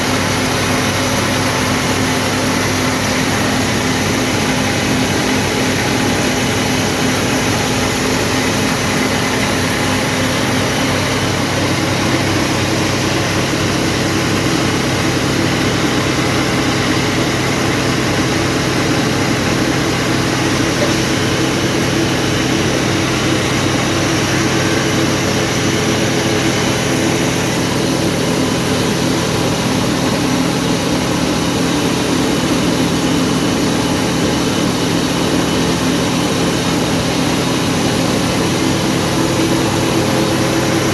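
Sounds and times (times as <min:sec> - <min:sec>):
grain cleaning machine humming: 0:00.0 - 0:40.9.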